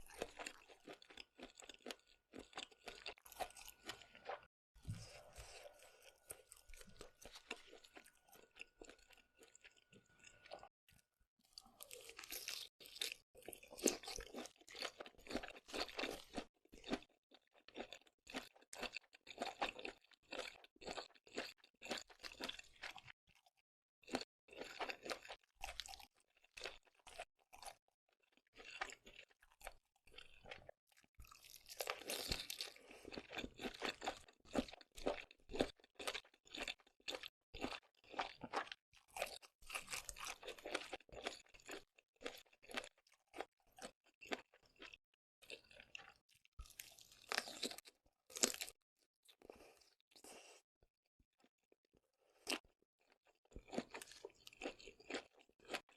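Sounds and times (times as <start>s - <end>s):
crunchy chewing: 0.0s - 10.7s, 11.4s - 27.8s, 28.4s - 50.6s, 52.2s - 55.9s.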